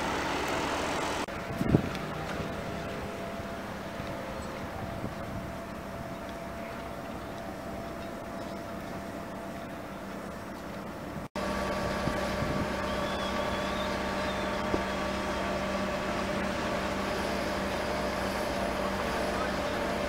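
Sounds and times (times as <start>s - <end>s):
fire engine engine humming: 0.0s - 20.0s.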